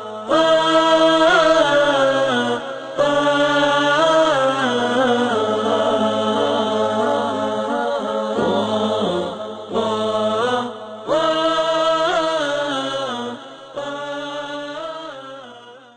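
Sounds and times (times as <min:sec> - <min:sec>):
vocal chanting in wavering notes: 0:00.0 - 0:15.9.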